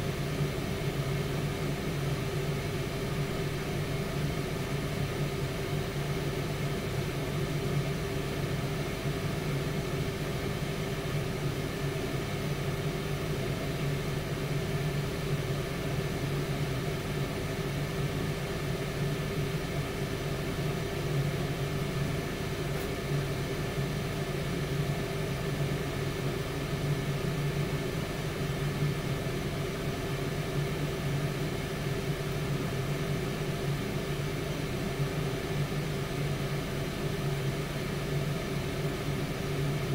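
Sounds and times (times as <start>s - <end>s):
air fryer fan humming: 0.0s - 39.9s.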